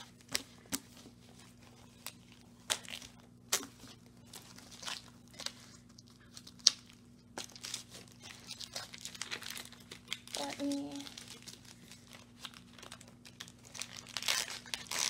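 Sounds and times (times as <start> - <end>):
plastic sleeves crinkling: 0.0 - 15.0.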